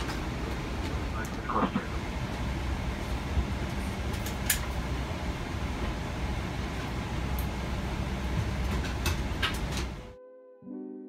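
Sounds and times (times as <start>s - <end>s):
jet cabin rumble and hiss: 0.0s - 10.1s.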